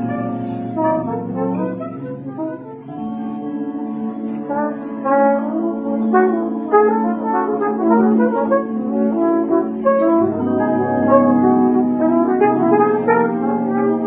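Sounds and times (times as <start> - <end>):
trumpet playing short notes: 0.0 - 3.3, 4.4 - 14.0.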